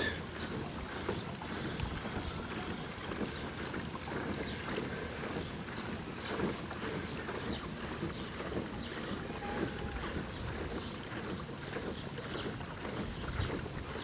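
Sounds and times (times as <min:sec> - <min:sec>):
boat water noise: 0:00.0 - 0:14.0
wind rumbling on microphone: 0:00.0 - 0:14.0.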